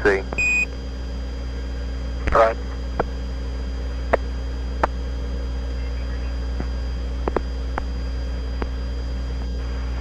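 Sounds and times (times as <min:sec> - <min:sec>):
radio channel hum and hiss: 0:00.0 - 0:10.0.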